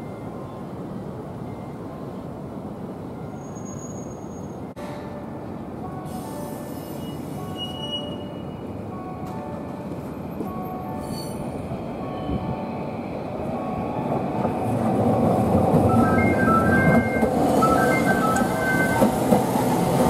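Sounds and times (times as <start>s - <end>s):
tram running rumble: 0.0s - 20.0s.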